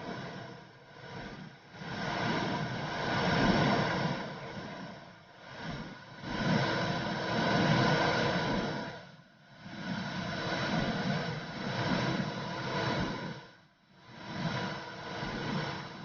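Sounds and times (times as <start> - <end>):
muffled whooshing womb sound: 0.0 - 16.0.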